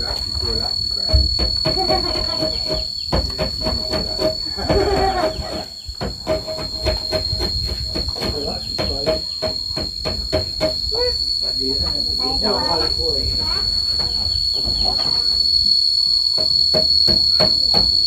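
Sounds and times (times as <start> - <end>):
insect droning high note: 0.0 - 18.0.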